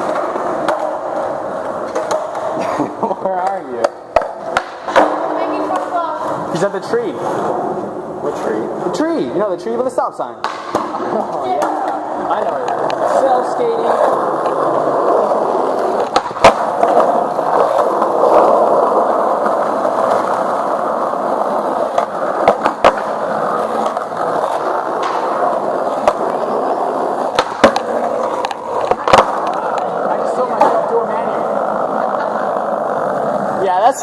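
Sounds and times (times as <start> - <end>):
skateboard clacks: 0.0 - 6.6, 10.4 - 33.6
skateboard wheels rolling: 0.0 - 34.0.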